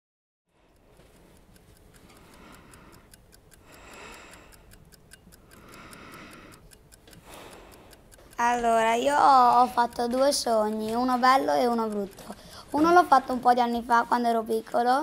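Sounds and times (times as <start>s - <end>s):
clock ticking: 0.5s - 15.0s.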